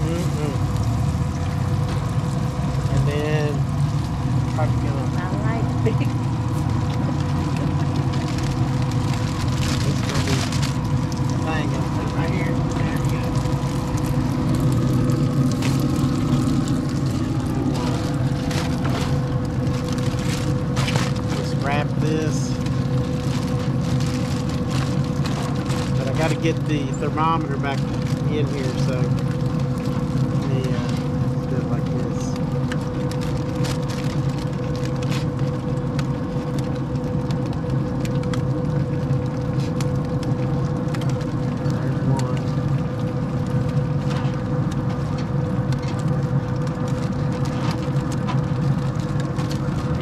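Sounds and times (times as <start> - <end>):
aluminum foil crinkling: 0.0 - 50.0
grill fan humming: 0.0 - 50.0.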